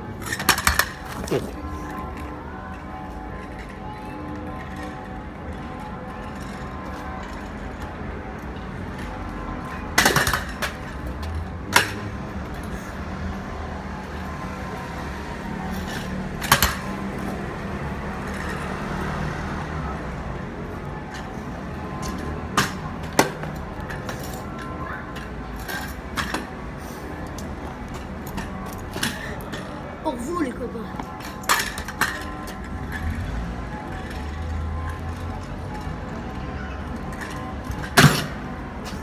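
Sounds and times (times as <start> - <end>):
low traffic hum: 0.0 - 39.0.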